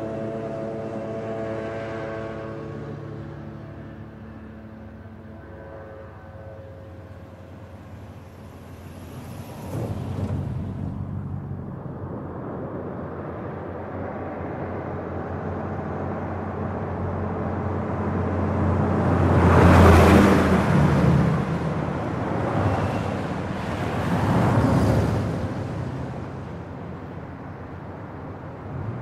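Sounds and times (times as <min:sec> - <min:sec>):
fast road traffic passing: 0:00.0 - 0:29.0.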